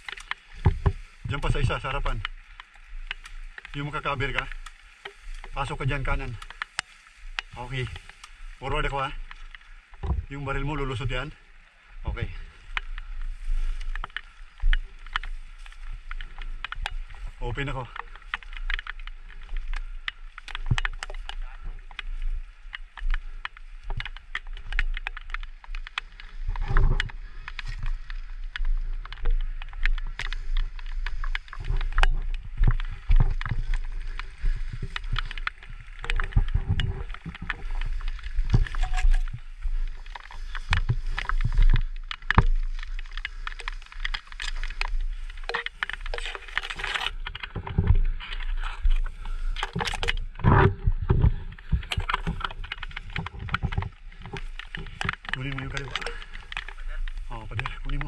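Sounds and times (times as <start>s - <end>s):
stems snapping: 0.0s - 10.2s, 12.5s - 58.0s
footsteps in grass: 0.0s - 11.4s, 12.2s - 58.0s
dry grass rustling: 0.0s - 58.0s.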